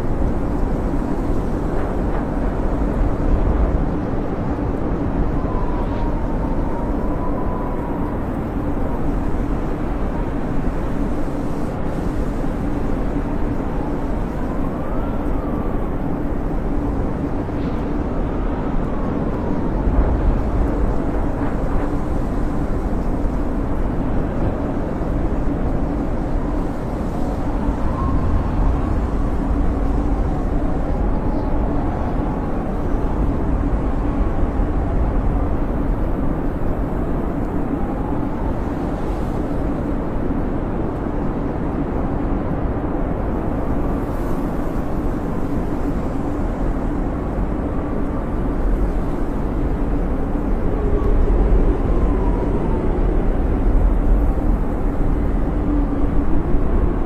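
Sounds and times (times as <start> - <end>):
faint wind whistling: 0.0 - 57.0
storm wind blowing hard: 0.0 - 57.0.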